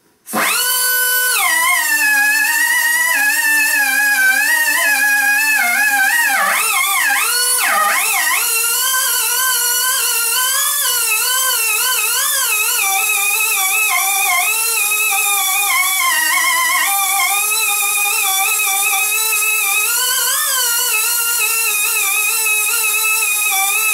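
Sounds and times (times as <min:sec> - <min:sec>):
air die grinder whining: 0:00.3 - 0:23.9.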